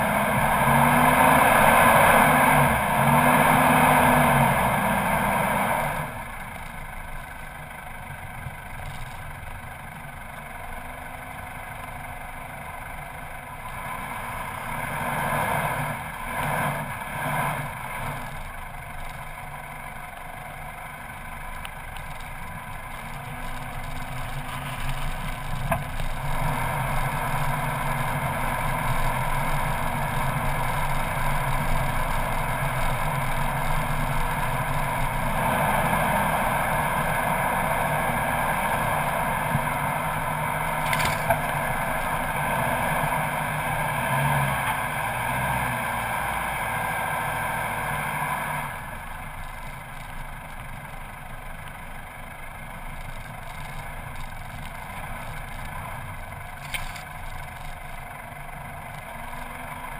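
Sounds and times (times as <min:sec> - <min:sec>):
vehicle engine running under load: 0:00.0 - 0:59.9.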